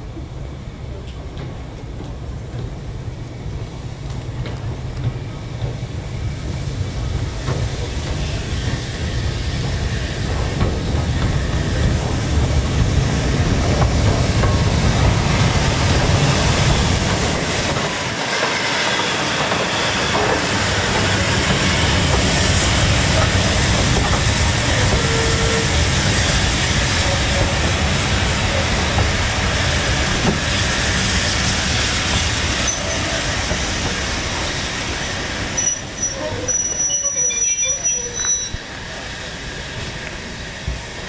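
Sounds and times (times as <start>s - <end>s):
train wheels rumbling on rails: 0.0s - 41.0s
steam hiss: 5.2s - 41.0s.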